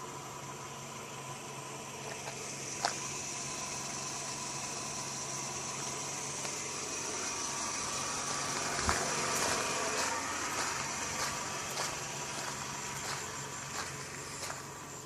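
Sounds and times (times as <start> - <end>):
construction machine engine running: 0.0 - 15.0.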